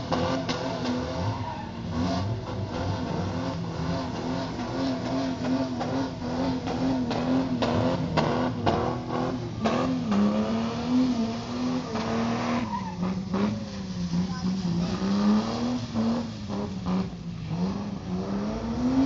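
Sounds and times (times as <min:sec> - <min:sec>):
engine revving high: 0:00.0 - 0:19.0.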